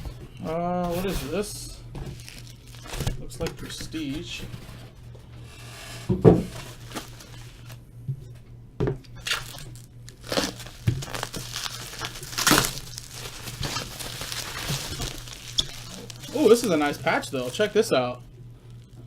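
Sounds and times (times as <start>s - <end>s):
plastic and foil wrappers crinkling: 0.0s - 5.0s, 6.5s - 7.8s, 9.2s - 19.0s.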